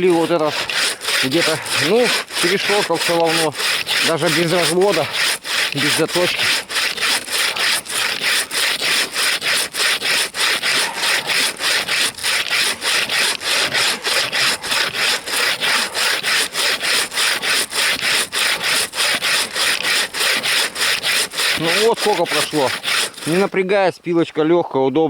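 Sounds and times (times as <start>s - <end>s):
bow saw cutting log: 0.0s - 23.8s.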